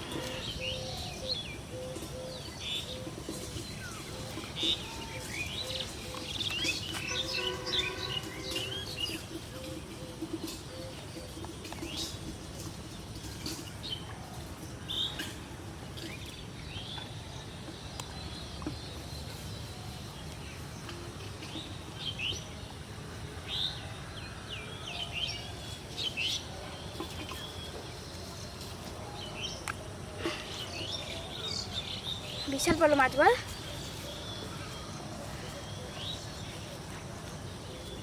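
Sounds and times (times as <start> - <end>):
small birds chirping: 0.0 - 23.8, 24.6 - 38.0
low outdoor background: 0.0 - 38.0.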